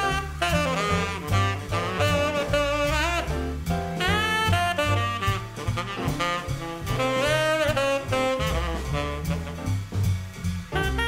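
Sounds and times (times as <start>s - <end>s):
saxophone melody: 0.0s - 9.9s, 10.7s - 11.0s
jazz music: 0.0s - 11.0s.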